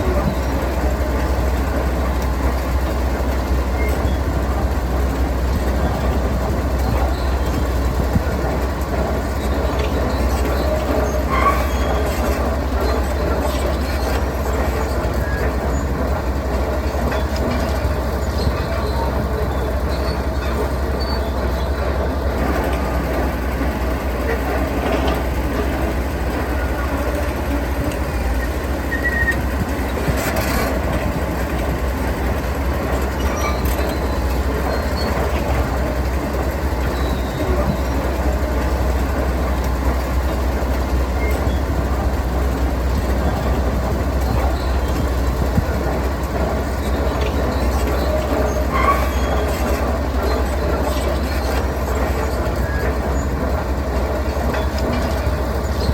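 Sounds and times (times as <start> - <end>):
diesel machinery engine rumble: 0.0 - 55.9.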